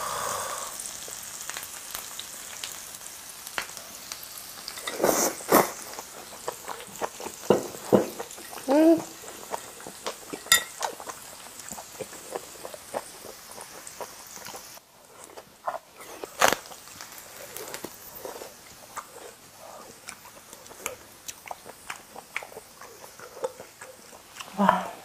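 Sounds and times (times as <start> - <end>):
grill sizzling: 0.0 - 24.4
person chewing food: 4.8 - 24.9.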